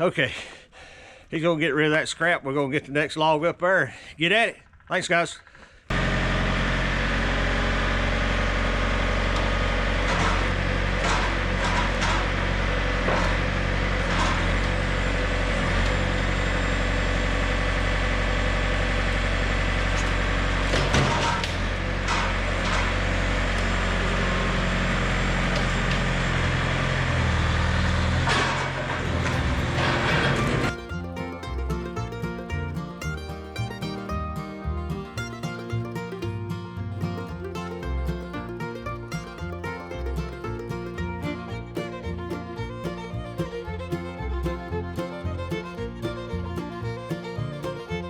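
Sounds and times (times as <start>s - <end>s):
engine running: 5.9s - 48.0s.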